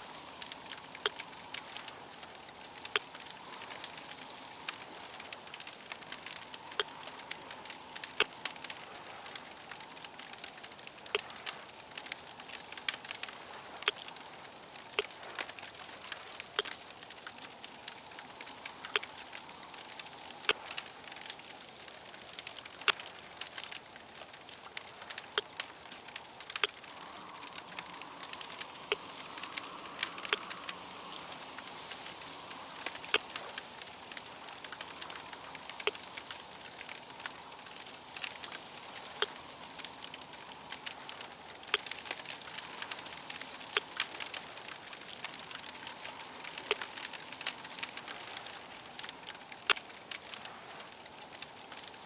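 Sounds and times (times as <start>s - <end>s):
fire crackling: 0.0s - 52.0s.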